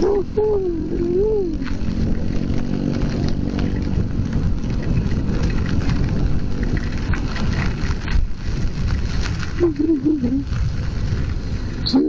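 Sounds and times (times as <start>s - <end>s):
motorcycle engine running: 0.0s - 12.0s
wet road noise: 0.0s - 12.0s.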